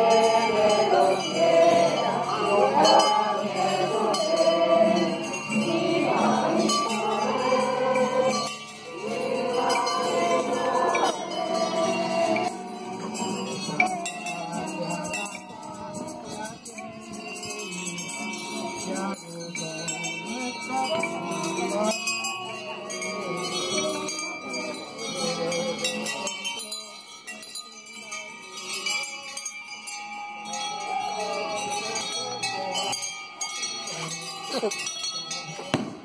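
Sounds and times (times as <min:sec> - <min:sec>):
people singing a hymn: 0:00.0 - 0:29.4, 0:30.5 - 0:34.8
bells jingling: 0:00.0 - 0:36.0.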